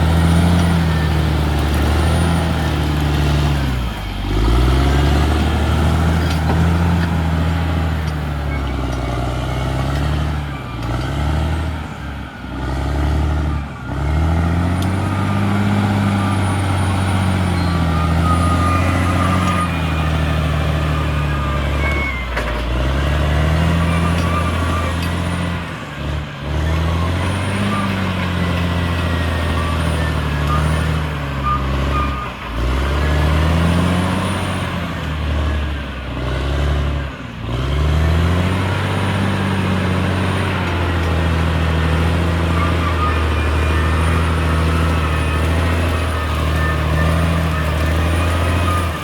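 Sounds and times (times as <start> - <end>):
bulldozer diesel engine under load: 0.0 - 49.0.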